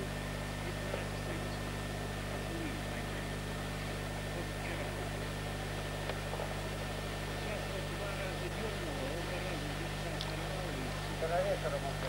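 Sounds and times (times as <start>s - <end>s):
tape hum and hiss: 0.0s - 12.0s
thin constant whine: 0.0s - 12.0s
faint distant voices: 0.6s - 12.0s.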